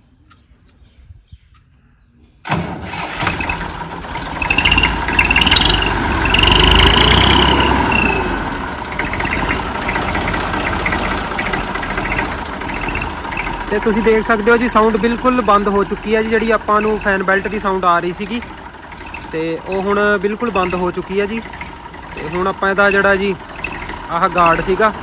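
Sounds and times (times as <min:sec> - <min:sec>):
tractor diesel engine starting: 0:02.4 - 0:25.0.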